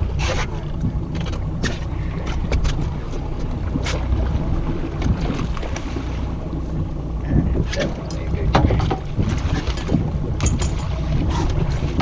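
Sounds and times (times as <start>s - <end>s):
boat low rumble: 0.0s - 12.0s
wind buffeting microphone: 0.0s - 12.0s.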